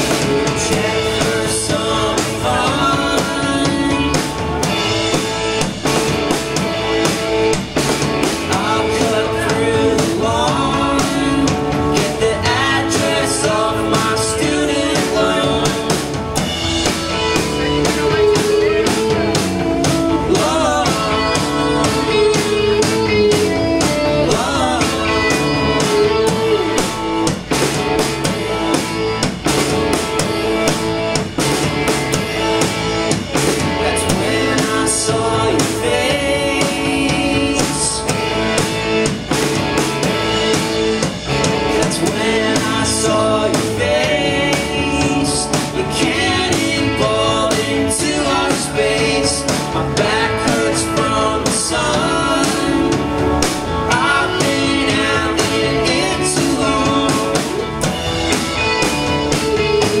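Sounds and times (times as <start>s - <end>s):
bass guitar: 0.0s - 60.0s
drum kit: 0.0s - 60.0s
electric guitars: 0.0s - 60.0s
singer's voice: 0.0s - 60.0s.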